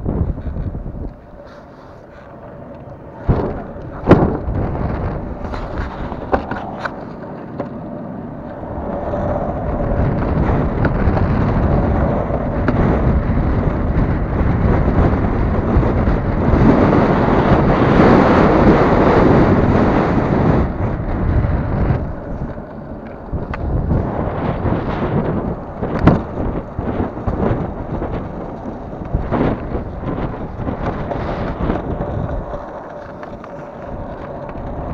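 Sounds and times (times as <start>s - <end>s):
wheels rolling over asphalt: 0.0s - 34.9s
wind buffeting microphone: 0.0s - 34.9s.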